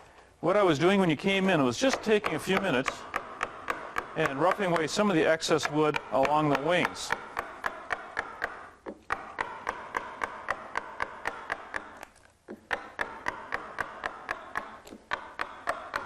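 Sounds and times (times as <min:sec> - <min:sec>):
mallet tapping carving gouge: 0:00.0 - 0:16.0.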